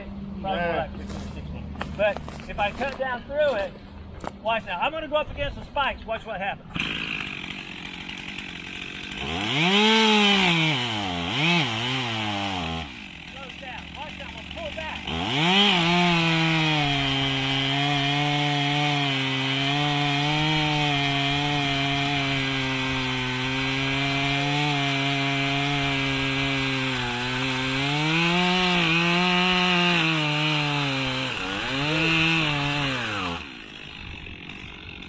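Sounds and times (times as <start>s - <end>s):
chainsaw cutting log: 0.8s - 3.8s, 6.6s - 35.0s.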